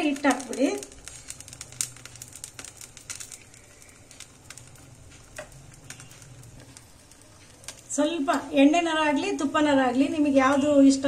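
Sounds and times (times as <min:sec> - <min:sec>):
batter sizzling on a hot griddle: 0:00.0 - 0:11.0.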